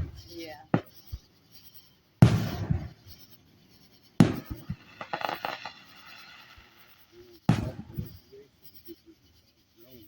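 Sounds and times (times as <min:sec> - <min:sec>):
firework shells bursting: 0:00.0 - 0:08.8
firework crackles: 0:00.0 - 0:10.0.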